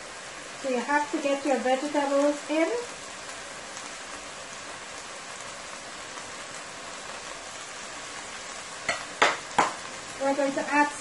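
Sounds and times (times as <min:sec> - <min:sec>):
sausage sizzling in oil: 0:00.0 - 0:11.0.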